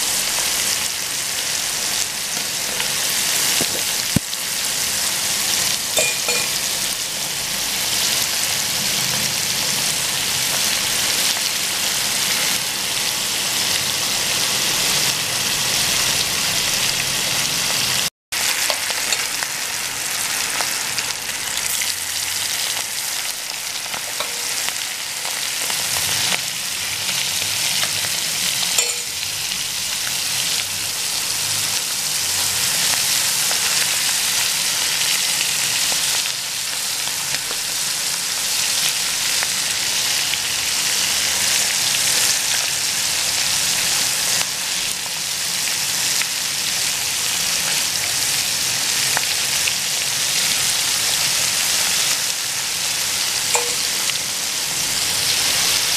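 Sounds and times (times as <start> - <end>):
oil sizzling and bubbling: 0.0 - 55.9.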